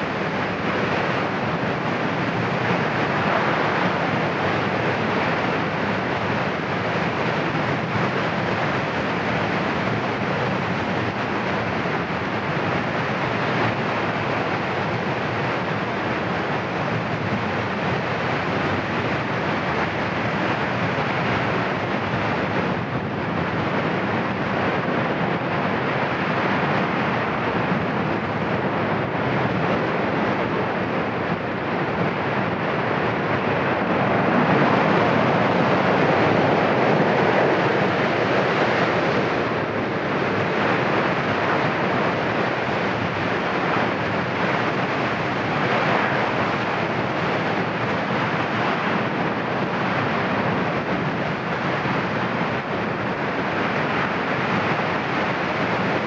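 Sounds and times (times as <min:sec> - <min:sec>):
volcano vent roaring: 0:00.0 - 0:56.0.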